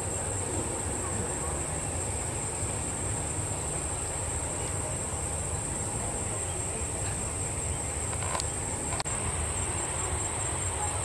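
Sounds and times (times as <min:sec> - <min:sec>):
insects droning: 0:00.0 - 0:11.0
jet engines rumbling: 0:00.0 - 0:11.0.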